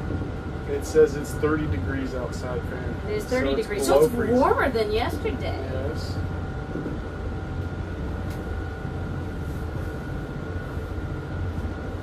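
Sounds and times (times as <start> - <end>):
low rumble with mechanical hum: 0.0 - 12.0.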